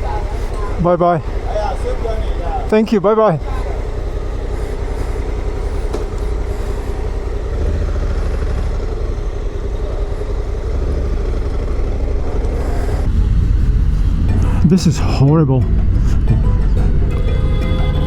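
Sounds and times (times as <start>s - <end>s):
motorcycle engine droning: 0.0s - 18.0s
road and wind noise: 0.0s - 18.0s.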